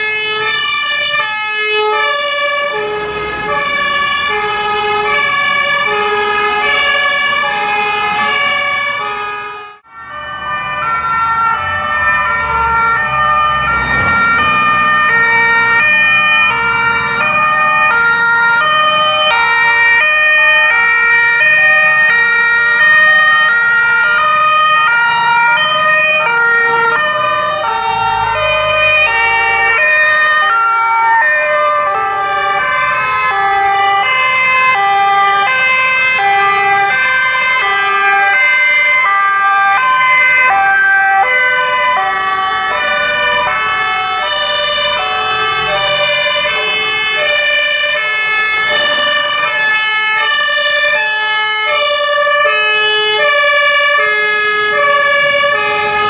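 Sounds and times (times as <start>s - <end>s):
two-tone fire engine sirens: 0.0s - 56.0s.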